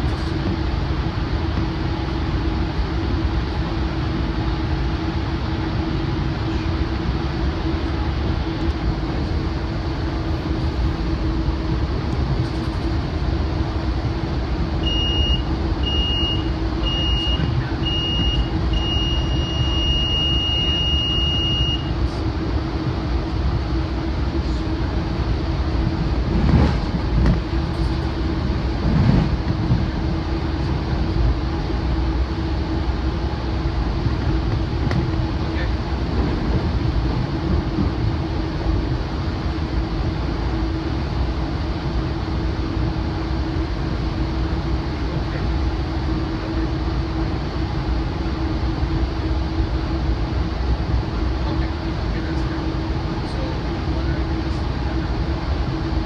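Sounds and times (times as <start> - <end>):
moving train rumble: 0.0 - 56.0
rail noise: 0.0 - 56.0.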